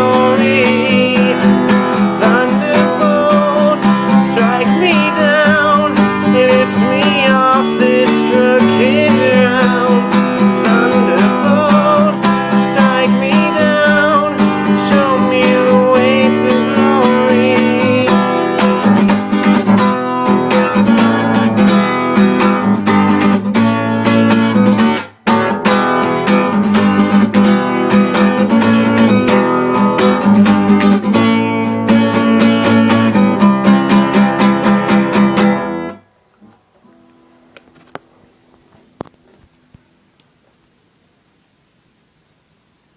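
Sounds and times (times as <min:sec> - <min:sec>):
acoustic guitar playing: 0:00.0 - 0:39.7.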